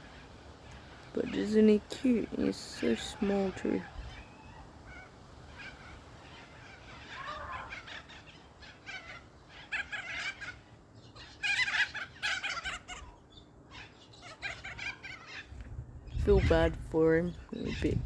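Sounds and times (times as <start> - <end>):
birds chattering calls: 0.0 - 18.0.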